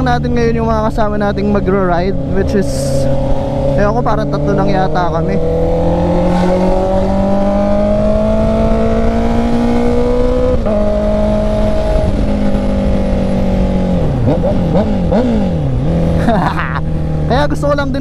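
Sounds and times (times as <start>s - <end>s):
motorcycle engine revving: 0.0s - 18.0s
wind rush: 0.5s - 18.0s.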